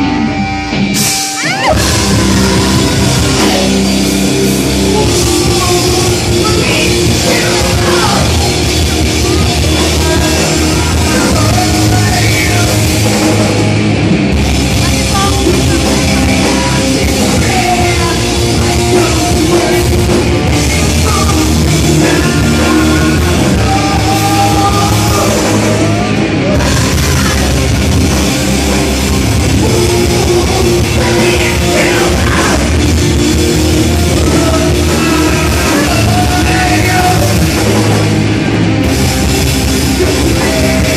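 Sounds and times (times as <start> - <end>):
bass guitar: 0.0 - 40.9
drum kit: 0.0 - 40.9
electric guitars: 0.0 - 40.9
person singing into a microphone: 1.4 - 13.4, 14.8 - 27.7, 29.4 - 32.9, 33.8 - 38.0, 39.9 - 40.9.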